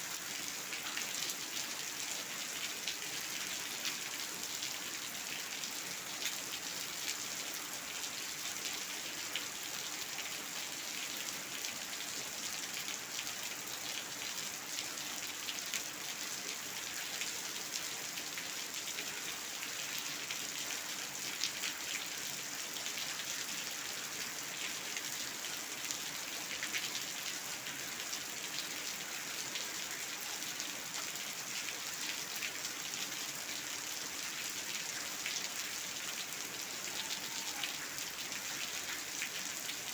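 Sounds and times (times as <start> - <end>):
rain falling on hard floor: 0.0 - 39.9.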